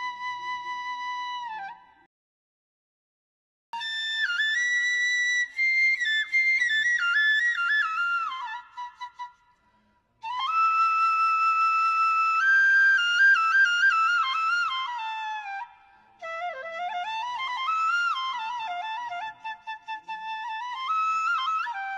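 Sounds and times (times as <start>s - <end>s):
solo flute-like melody: 0.0s - 2.1s, 3.8s - 9.6s, 10.2s - 21.9s.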